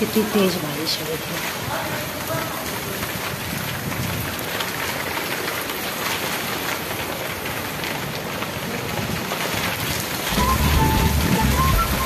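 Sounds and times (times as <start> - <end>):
heavy rain on concrete: 0.0 - 12.0.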